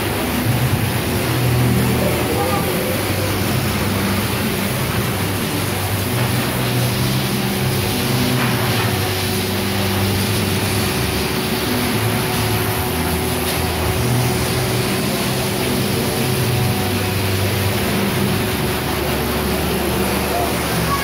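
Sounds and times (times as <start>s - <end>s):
shearing handpiece buzzing: 0.0s - 21.0s.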